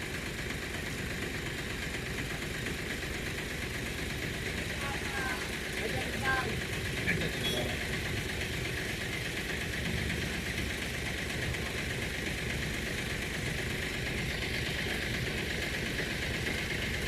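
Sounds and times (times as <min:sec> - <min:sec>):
heavy equipment engine running: 0:00.0 - 0:17.0.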